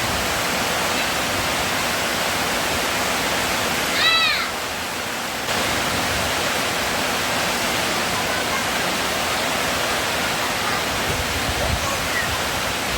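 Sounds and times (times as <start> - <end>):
heavy rain: 0.0 - 12.9.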